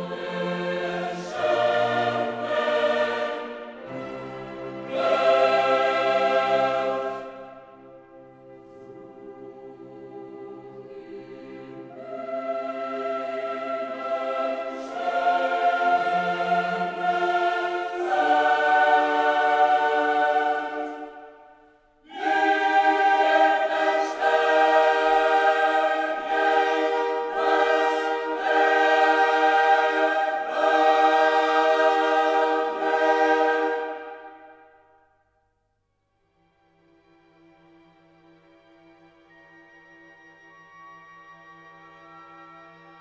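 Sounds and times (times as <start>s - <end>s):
sustained choir-like chords: 0.0s - 35.1s.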